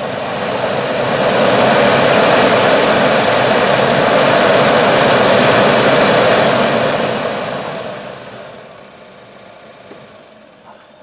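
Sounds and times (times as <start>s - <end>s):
blower fan rushing air: 0.0s - 11.0s.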